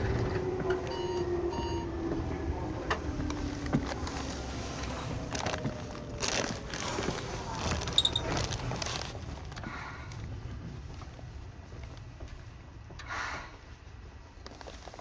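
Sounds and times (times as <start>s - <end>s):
train wheels rumbling on rail: 0.0s - 14.8s.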